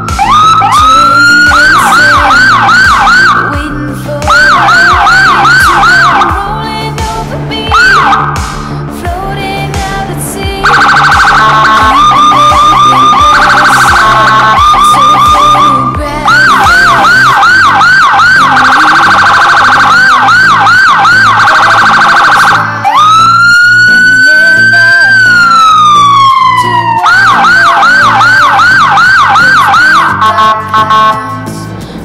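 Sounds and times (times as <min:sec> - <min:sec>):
electronic vehicle siren: 0:00.0 - 0:06.4, 0:07.7 - 0:08.4, 0:10.6 - 0:31.2.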